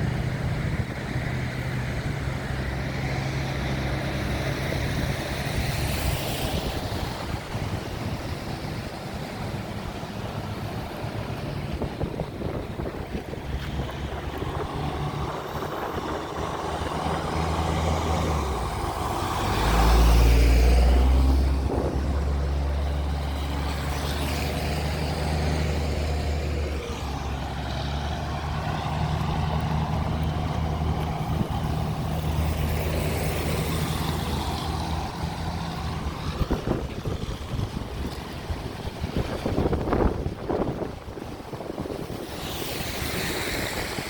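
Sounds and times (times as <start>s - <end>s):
steady rushing noise: 0.0s - 44.0s
vehicle engine humming: 0.0s - 44.0s.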